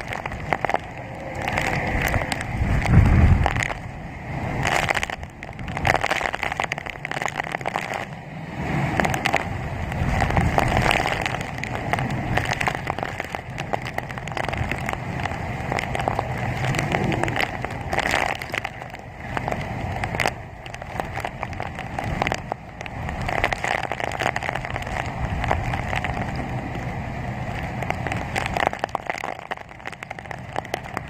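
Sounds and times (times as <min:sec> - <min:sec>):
crackle of rain: 0:00.0 - 0:31.0
gusting wind: 0:00.0 - 0:31.0.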